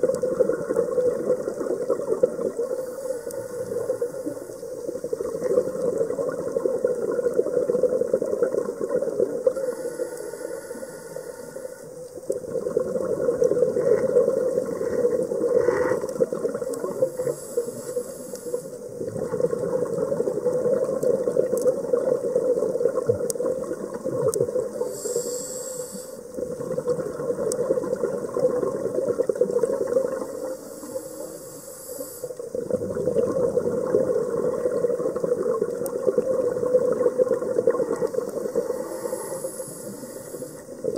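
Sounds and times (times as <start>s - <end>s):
diver regulator bubbling underwater: 0.0s - 9.6s, 12.2s - 17.3s, 18.9s - 24.9s, 26.3s - 30.6s, 32.4s - 40.9s.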